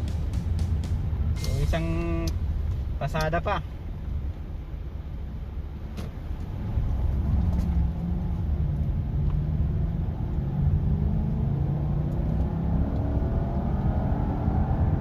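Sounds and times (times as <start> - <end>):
car engine: 0.0 - 15.0
road rumble: 0.0 - 15.0.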